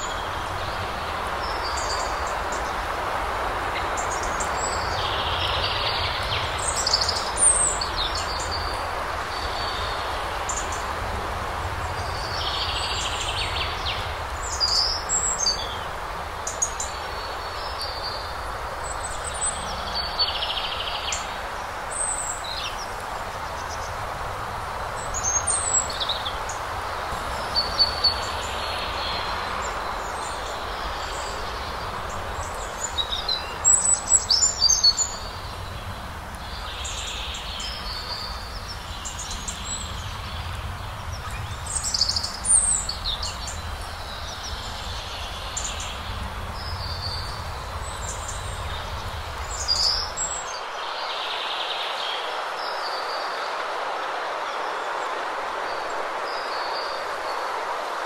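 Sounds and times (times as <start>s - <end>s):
small birds chirping: 0.0s - 53.3s
wind rushing: 0.0s - 58.0s.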